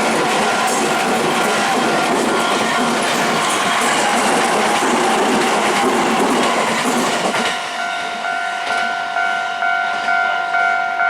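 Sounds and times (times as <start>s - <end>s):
train wheels clattering on rails: 0.0s - 9.3s
level crossing warning bell: 0.0s - 11.0s.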